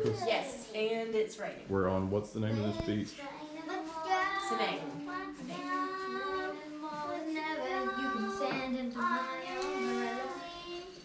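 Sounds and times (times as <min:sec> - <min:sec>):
child singing unaccompanied: 0:00.0 - 0:00.8, 0:02.4 - 0:11.0.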